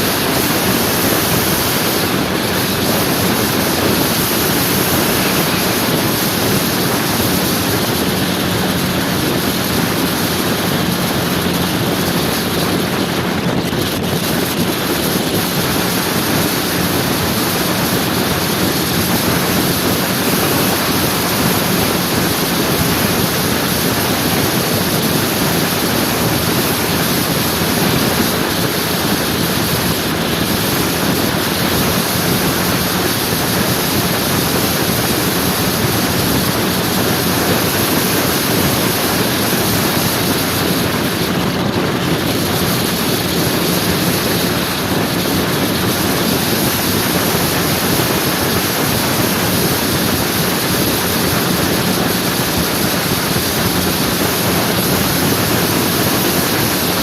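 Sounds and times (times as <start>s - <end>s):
road noise: 0.0s - 57.0s
scooter engine hum: 0.0s - 57.0s
wind over microphone: 0.0s - 57.0s.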